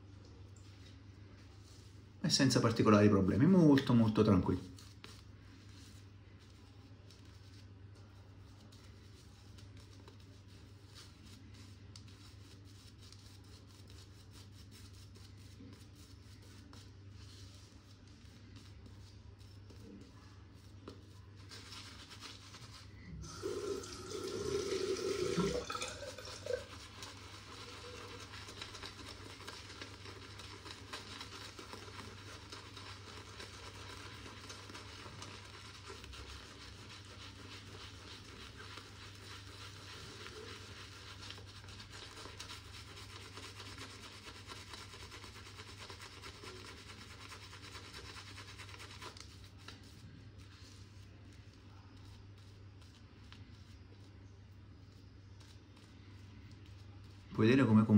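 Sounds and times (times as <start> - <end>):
shaving brush lathering: 3.4 - 54.2.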